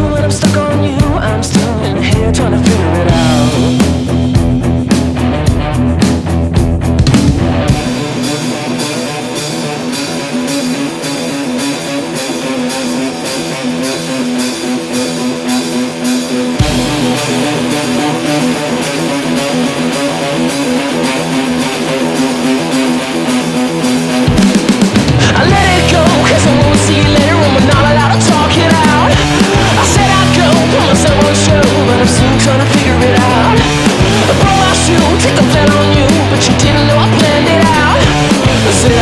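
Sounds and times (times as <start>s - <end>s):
instrumental rock music with guitar: 0.0s - 39.0s.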